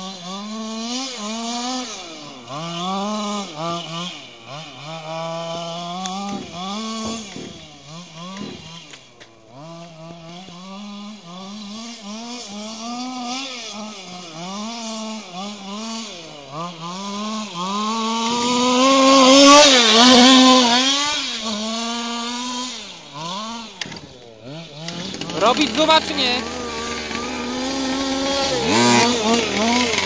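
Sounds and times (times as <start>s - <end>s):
rc buggy engine revving: 0.0s - 30.0s.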